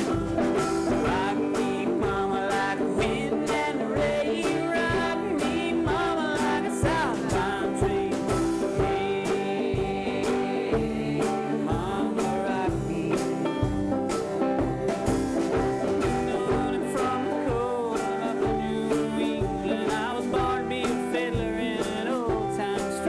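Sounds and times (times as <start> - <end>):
ukuleles strumming: 0.0 - 23.0.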